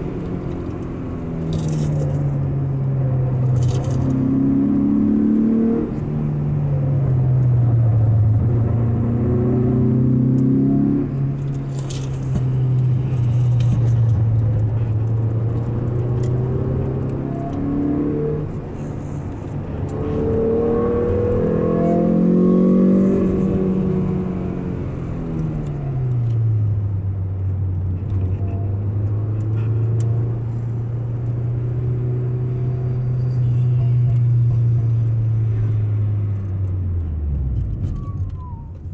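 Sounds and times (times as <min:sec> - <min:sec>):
car engine revving: 0:00.0 - 0:33.5.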